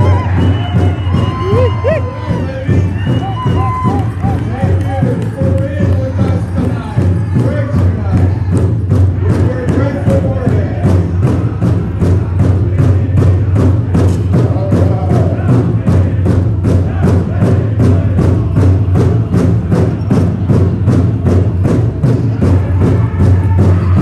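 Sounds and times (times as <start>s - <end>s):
large drum steady beat: 0.0s - 24.0s
singers chanting: 0.0s - 24.0s.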